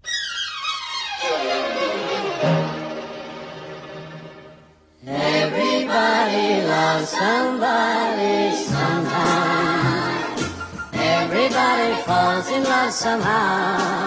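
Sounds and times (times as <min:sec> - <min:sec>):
background music: 0:00.9 - 0:14.0
song with choir-like singing: 0:01.3 - 0:14.0.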